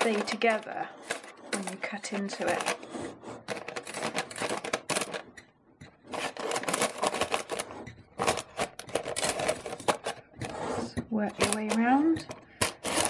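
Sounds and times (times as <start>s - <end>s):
metal cup scraping crumbs: 0.0s - 5.3s, 6.0s - 13.0s.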